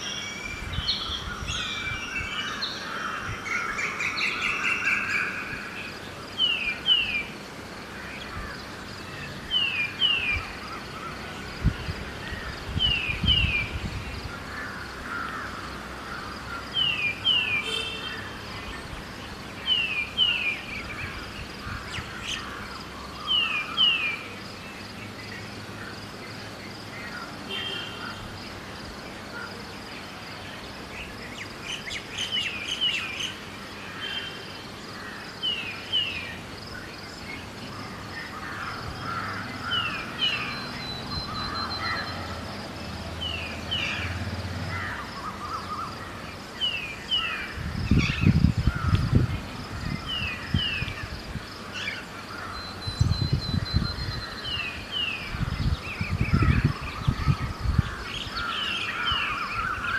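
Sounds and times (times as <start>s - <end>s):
birds chirping: 0.0s - 59.9s
faint insect trill: 0.0s - 59.9s.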